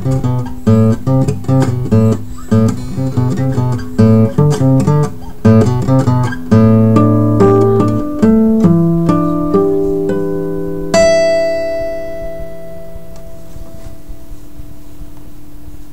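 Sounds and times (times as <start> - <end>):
acoustic guitar fingerpicking: 0.0 - 15.8.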